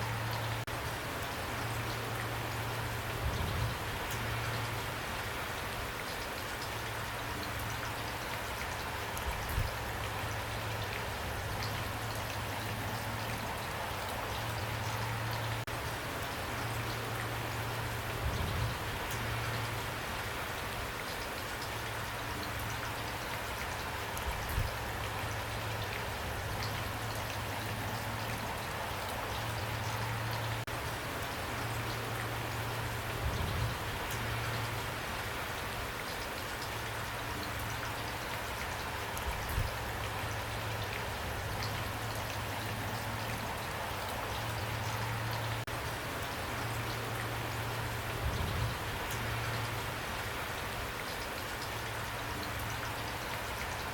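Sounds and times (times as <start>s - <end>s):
rain drops pattering: 0.0s - 53.9s.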